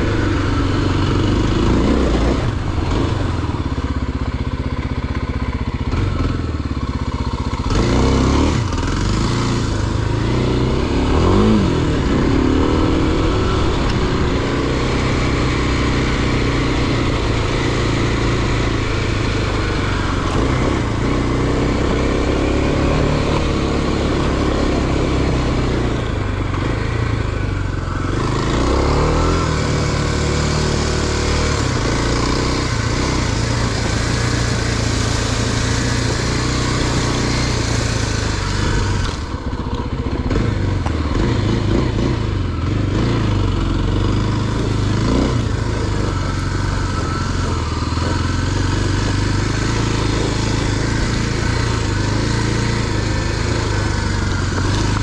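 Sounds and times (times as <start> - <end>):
steady rushing noise: 0.0 - 6.5, 7.3 - 55.0
vehicle engine running: 0.0 - 55.0.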